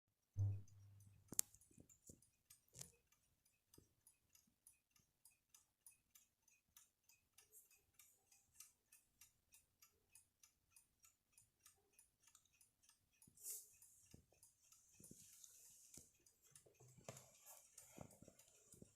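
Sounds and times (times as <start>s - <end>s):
alarm clock ticking: 0.4s - 18.9s.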